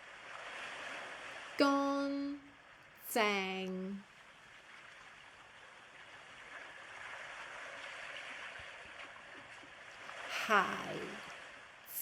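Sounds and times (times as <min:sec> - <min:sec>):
soft running water: 0:00.0 - 0:12.0.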